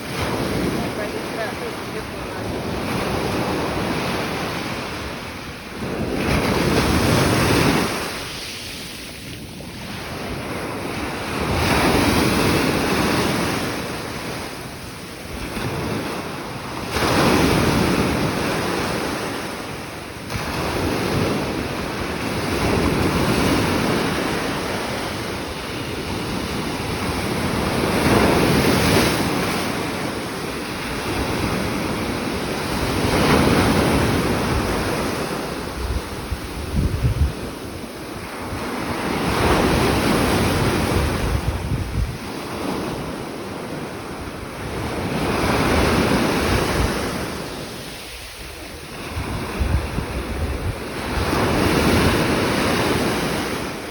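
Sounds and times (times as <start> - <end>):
sea waves breaking on shore: 0.0 - 53.9
wind noise on microphone: 0.0 - 53.9.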